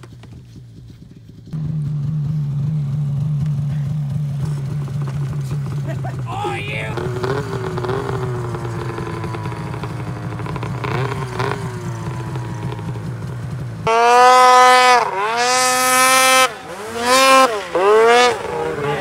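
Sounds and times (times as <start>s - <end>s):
snowmobile engine revving: 1.1s - 19.0s.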